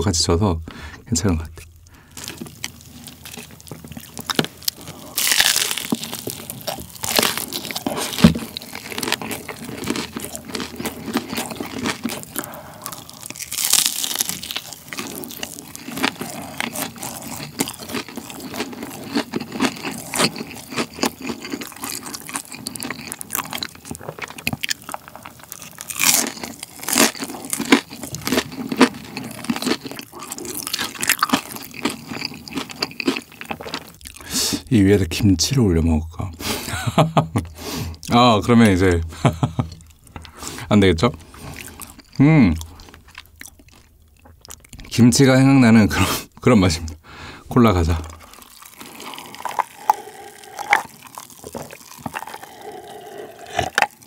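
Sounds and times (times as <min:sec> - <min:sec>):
crunching and chewing: 0:01.7 - 0:34.7, 0:39.3 - 0:45.5, 0:47.8 - 0:54.0.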